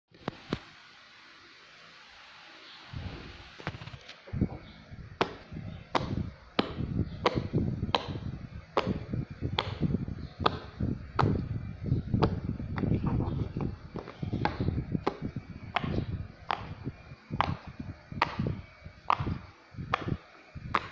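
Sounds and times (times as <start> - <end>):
low rumbling handling noise: 3.0 - 20.9.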